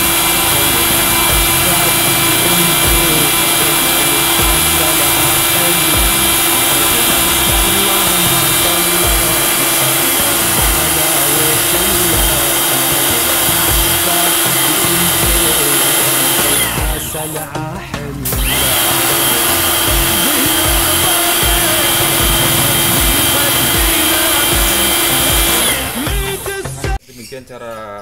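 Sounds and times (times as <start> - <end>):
pressure washer spraying water: 0.0 - 17.5, 18.2 - 26.8.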